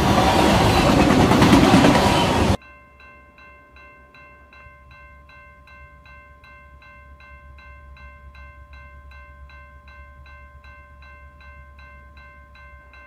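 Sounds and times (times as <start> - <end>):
railroad crossing bell dinging: 0.0 - 13.0.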